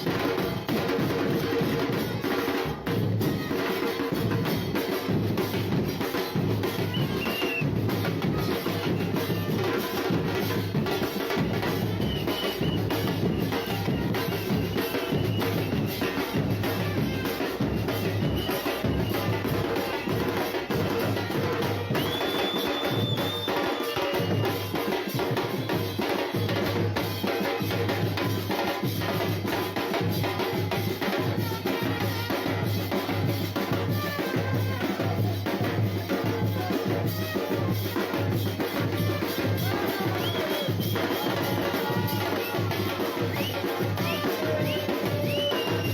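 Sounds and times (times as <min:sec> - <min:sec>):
drum-driven music: 0:00.0 - 0:45.9.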